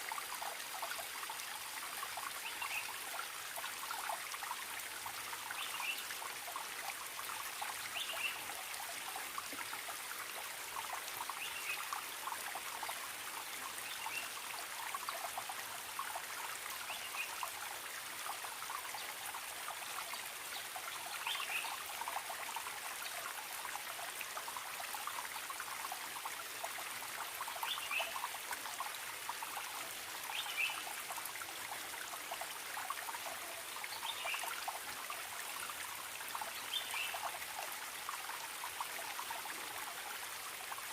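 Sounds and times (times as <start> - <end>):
stream trickling and bubbling: 0.0 - 40.9.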